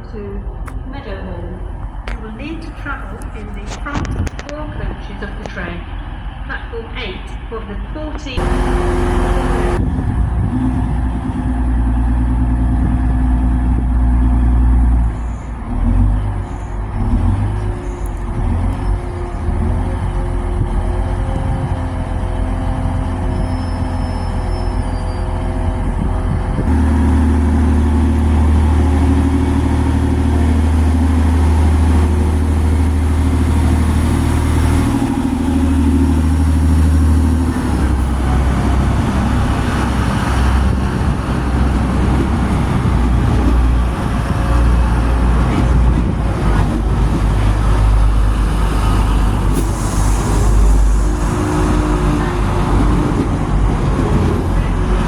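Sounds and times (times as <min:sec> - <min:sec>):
train diesel engines running: 0:00.0 - 0:55.0.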